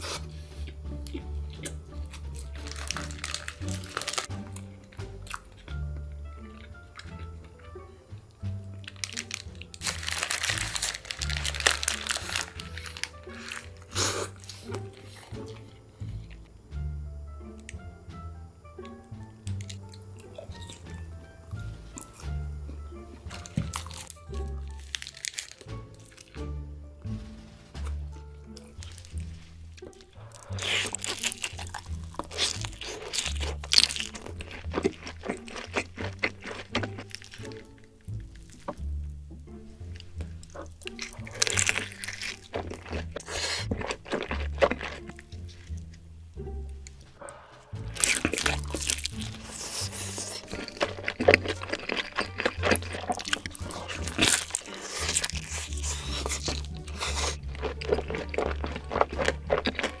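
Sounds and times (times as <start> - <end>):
crunchy food being chewed: 0.0 - 16.6, 18.8 - 46.0, 46.9 - 60.0
background music with bass: 0.0 - 60.0.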